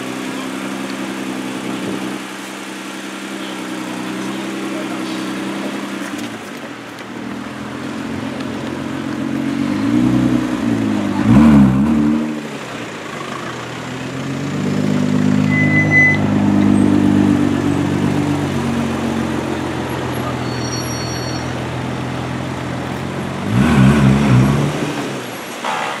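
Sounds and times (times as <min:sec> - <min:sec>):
sports car engine revving: 0:00.0 - 0:20.6, 0:21.6 - 0:25.8.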